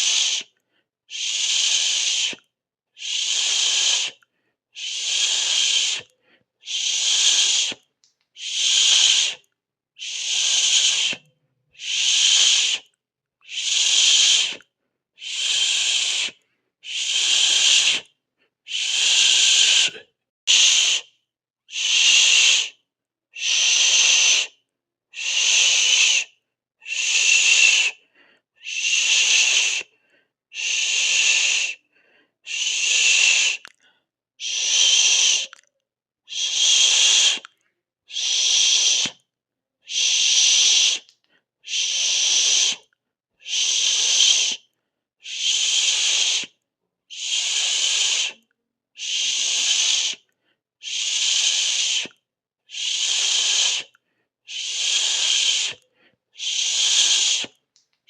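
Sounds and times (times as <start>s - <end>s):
person hissing: 0.0s - 2.4s, 3.0s - 4.2s, 4.8s - 7.8s, 8.4s - 18.1s, 18.7s - 21.1s, 21.7s - 22.8s, 23.4s - 24.6s, 25.2s - 28.0s, 28.6s - 31.9s, 32.5s - 33.8s, 34.4s - 35.6s, 36.3s - 37.5s, 38.1s - 39.2s, 39.9s - 44.6s, 45.2s - 48.4s, 49.0s - 52.1s, 52.7s - 57.6s.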